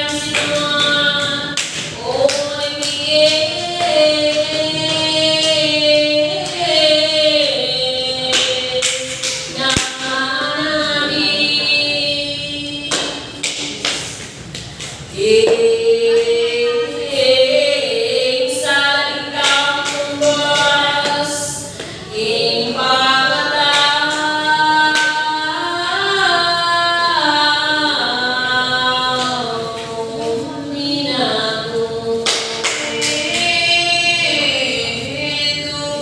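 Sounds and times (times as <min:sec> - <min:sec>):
voices singing a chant: 0:00.0 - 0:14.2, 0:15.1 - 0:36.0.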